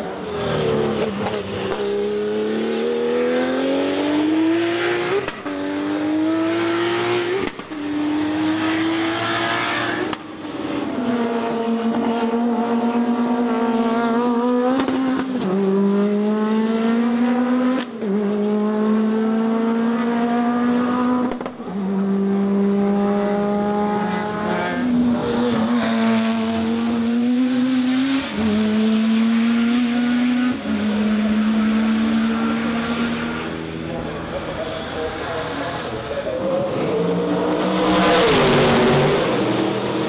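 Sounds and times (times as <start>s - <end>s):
race car engine revving: 0.0s - 40.0s.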